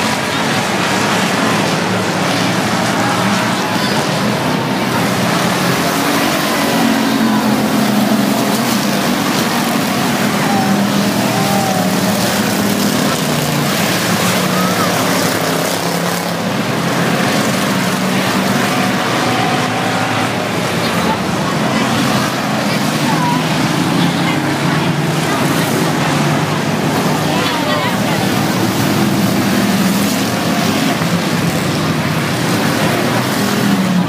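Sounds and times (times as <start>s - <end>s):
race car engines droning: 0.0s - 34.0s.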